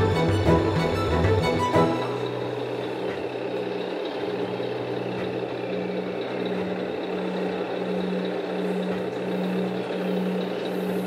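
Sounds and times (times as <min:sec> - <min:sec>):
electronic diesel engine idle: 0:00.0 - 0:11.0.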